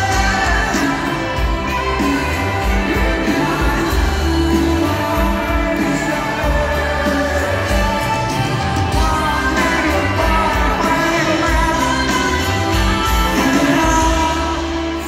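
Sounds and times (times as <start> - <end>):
live rock band: 0.0 - 15.0
person singing: 0.0 - 15.0.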